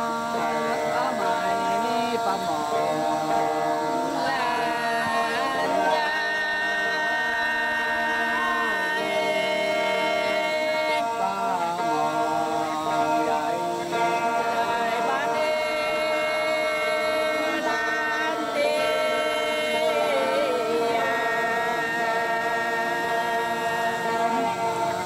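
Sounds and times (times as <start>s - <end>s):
chant in long held notes: 0.0s - 25.0s.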